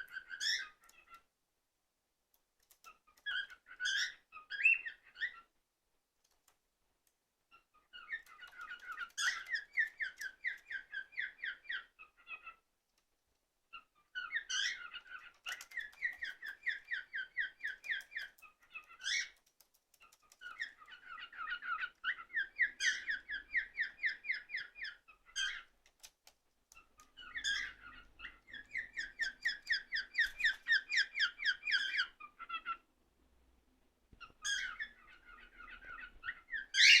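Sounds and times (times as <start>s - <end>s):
cockatiel chirping: 0.0s - 1.3s, 2.8s - 5.5s, 7.5s - 12.6s, 13.7s - 25.7s, 26.7s - 32.8s, 34.2s - 37.0s.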